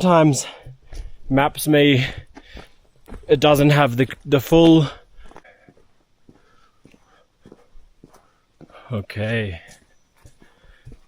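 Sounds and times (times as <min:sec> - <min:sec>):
faint footsteps on trail: 0:00.0 - 0:11.0.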